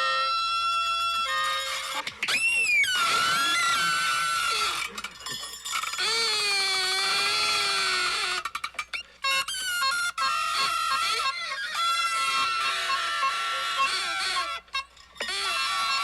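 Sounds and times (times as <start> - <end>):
high squealing toy tone: 0.0 - 16.0.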